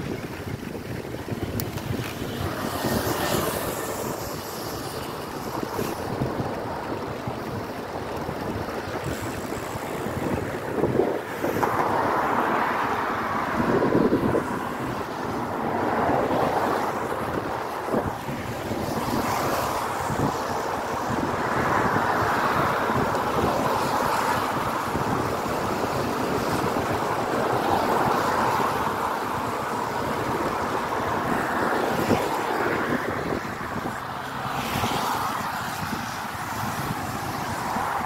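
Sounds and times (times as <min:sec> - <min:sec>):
road noise on wet asphalt: 0:00.0 - 0:38.0
wind rushing over microphone: 0:00.0 - 0:38.0.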